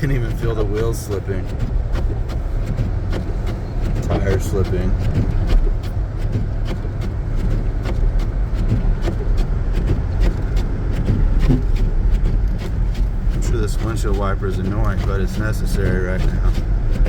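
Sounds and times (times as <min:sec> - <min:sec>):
clicks and ticks: 0:00.0 - 0:17.0
engine and tires rumbling: 0:00.0 - 0:17.0.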